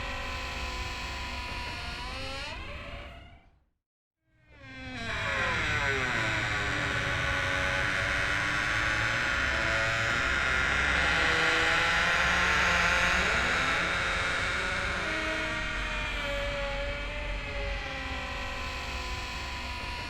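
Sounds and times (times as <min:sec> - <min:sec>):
door creaking slowly: 0:01.4 - 0:03.4, 0:04.6 - 0:20.0.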